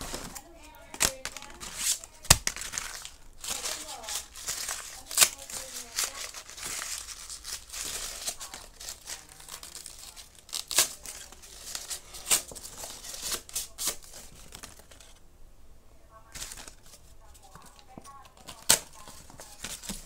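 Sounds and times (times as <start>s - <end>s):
paper crumpling and tearing: 0.0s - 15.2s, 16.3s - 20.0s.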